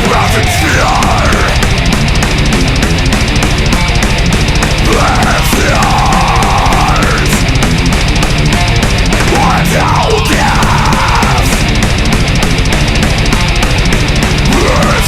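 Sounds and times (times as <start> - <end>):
fast metal drums: 0.0 - 15.0
heavily distorted guitars: 0.0 - 15.0
sliding high guitar line: 0.0 - 15.0.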